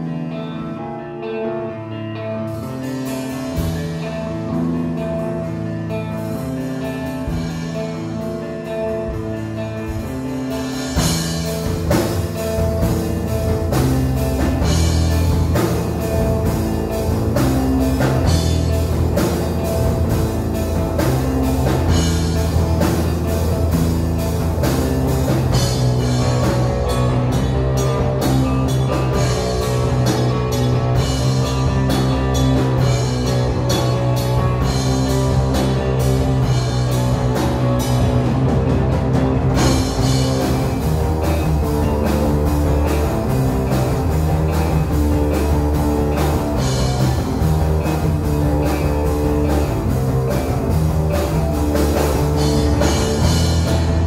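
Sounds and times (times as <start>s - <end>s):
rock band playing: 0.0s - 54.0s
drum kit beat: 2.6s - 54.0s.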